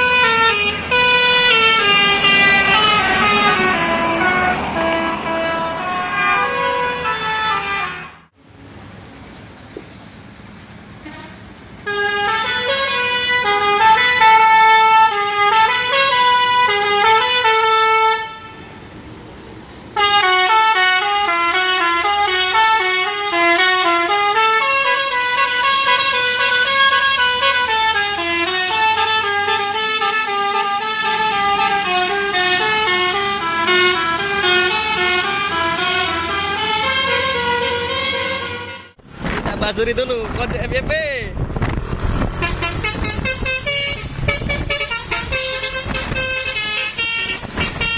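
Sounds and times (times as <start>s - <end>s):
musical air horn playing a tune: 0.0s - 8.3s, 11.0s - 18.7s, 20.0s - 39.0s, 42.4s - 47.9s.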